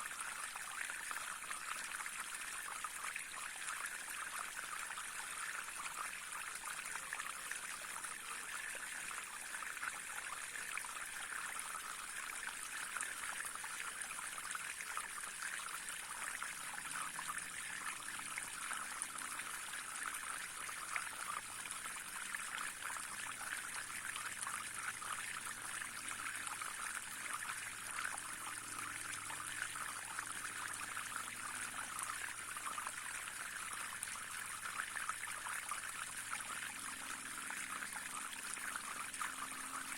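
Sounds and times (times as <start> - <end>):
brook trickling water: 0.0 - 39.9.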